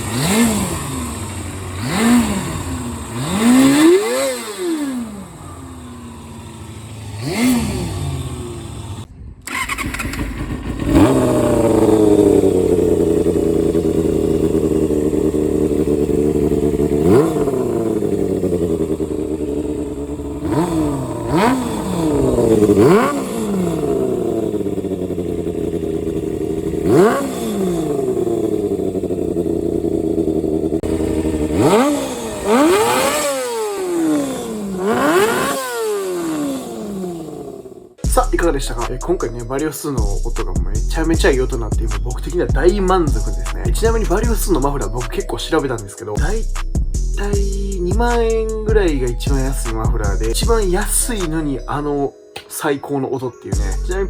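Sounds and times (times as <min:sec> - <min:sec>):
motorcycle engine revving: 0:00.0 - 0:51.2.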